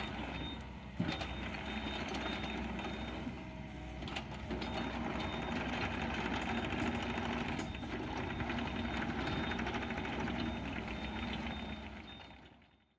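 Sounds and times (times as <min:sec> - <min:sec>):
diesel engine clattering: 0:00.0 - 0:12.9.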